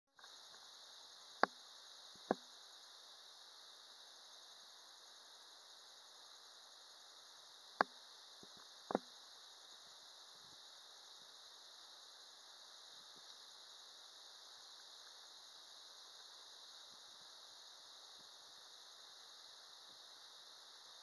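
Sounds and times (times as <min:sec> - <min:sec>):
faint high-pitched hiss: 0:00.1 - 0:21.0.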